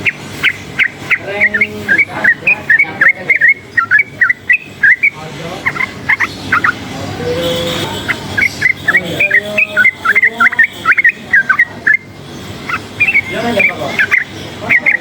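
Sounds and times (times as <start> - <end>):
bird singing whistled notes: 0.0 - 6.8, 7.4 - 15.0.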